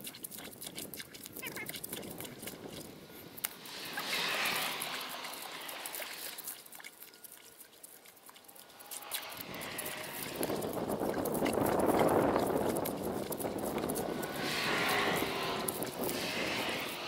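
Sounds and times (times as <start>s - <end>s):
skimmer scooping slush and ice: 0.0s - 17.0s
water trickling off scoop: 0.0s - 17.0s.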